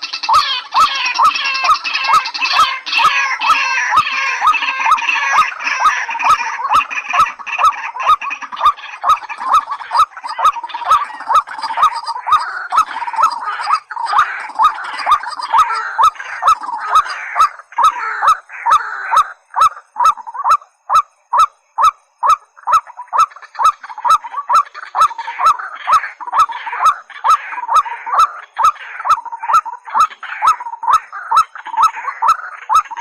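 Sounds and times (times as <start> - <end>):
waterhens honking calls: 0.0 - 33.0.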